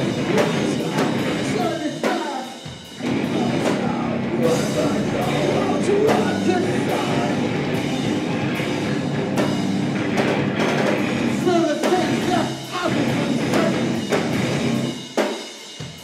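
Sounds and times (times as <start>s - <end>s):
heavy rock band playing: 0.0s - 16.0s.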